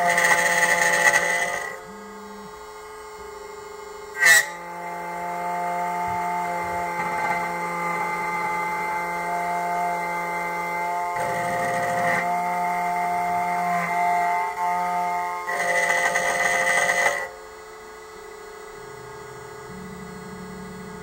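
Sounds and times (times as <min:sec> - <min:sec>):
key cutting machine whining: 0:00.0 - 0:21.0.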